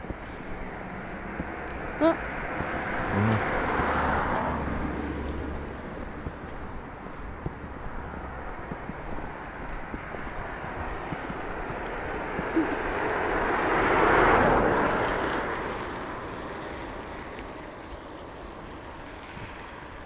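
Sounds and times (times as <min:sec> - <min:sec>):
vehicle passing by: 0:00.0 - 0:19.9.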